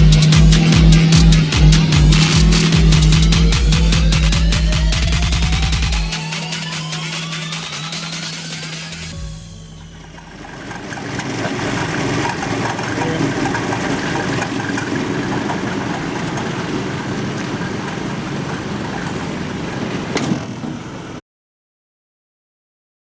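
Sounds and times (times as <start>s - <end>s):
car engine running: 0.0s - 21.2s.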